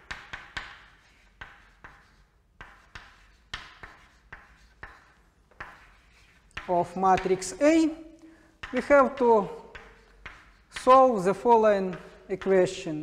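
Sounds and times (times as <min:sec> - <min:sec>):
chalk tapping and scratching on chalkboard: 0:00.0 - 0:08.0, 0:08.6 - 0:13.0.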